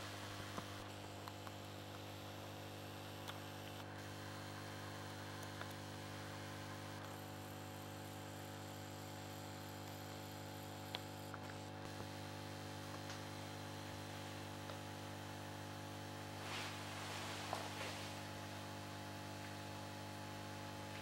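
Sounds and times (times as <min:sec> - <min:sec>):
mains hum from lamp ballast: 0:00.0 - 0:21.0.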